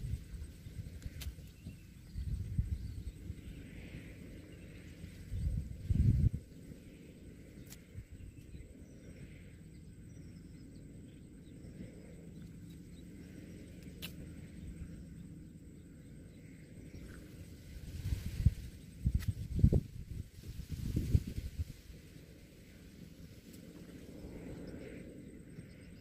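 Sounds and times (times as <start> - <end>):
insect calls: 0.0 - 26.0
low steady rumble: 0.0 - 26.0.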